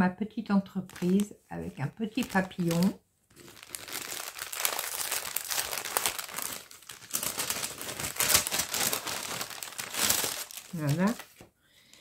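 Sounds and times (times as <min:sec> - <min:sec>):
paper envelope crinkling: 0:00.8 - 0:11.5.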